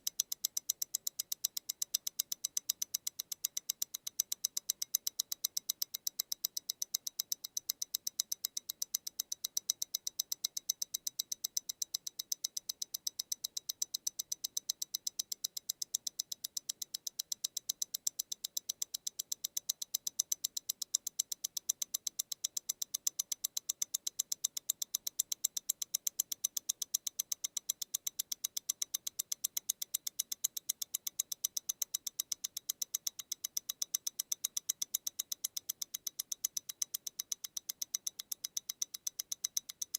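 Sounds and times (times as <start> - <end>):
wristwatch ticking: 0.0 - 39.9.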